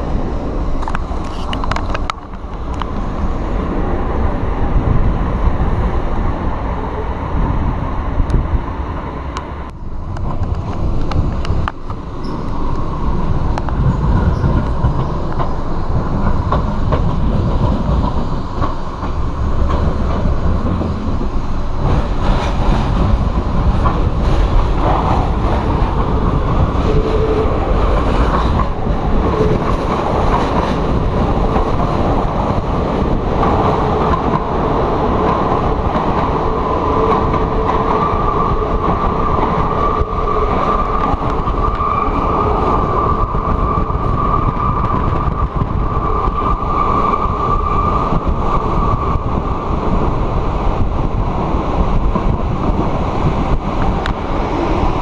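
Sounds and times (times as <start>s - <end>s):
train wheels rumbling on rails: 0.0s - 55.0s
wind on microphone: 0.0s - 55.0s.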